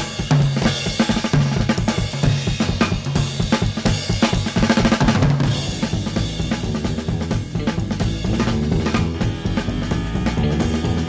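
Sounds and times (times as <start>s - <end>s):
bass line: 0.0s - 11.0s
drum kit playing: 0.0s - 11.0s
rock band instrumental: 0.0s - 11.0s.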